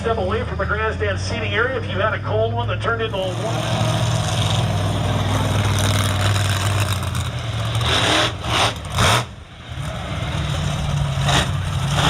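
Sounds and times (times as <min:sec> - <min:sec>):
heavy vehicle engine idling: 0:00.0 - 0:12.0.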